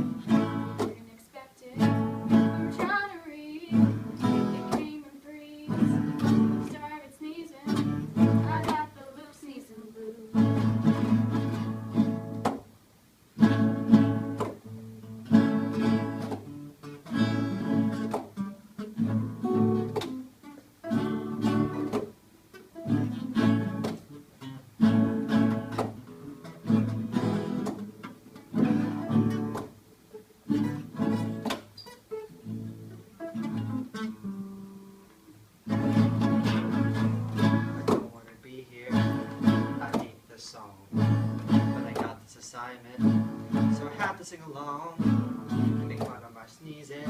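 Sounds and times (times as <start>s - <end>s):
blues guitar strumming: 0.0s - 47.0s.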